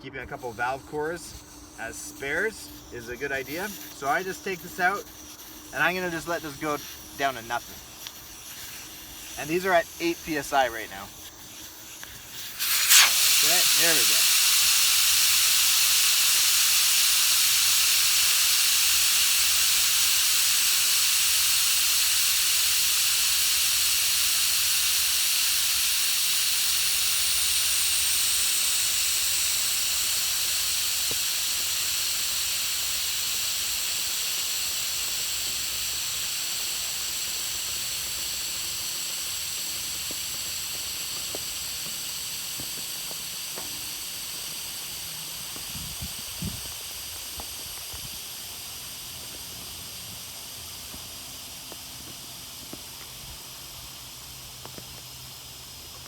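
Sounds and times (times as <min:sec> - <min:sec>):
air hissing from tire valve: 0:00.1 - 0:56.0.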